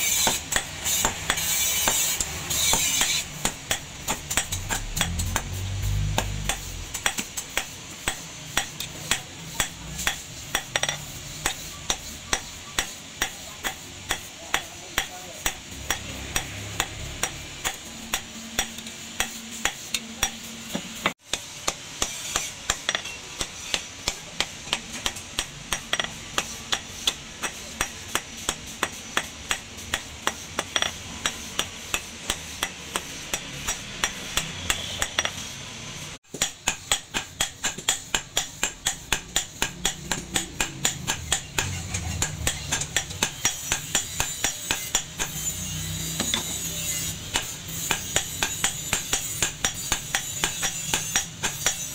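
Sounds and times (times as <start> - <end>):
hammer striking metal on anvil: 0.0 - 35.5, 36.3 - 51.9.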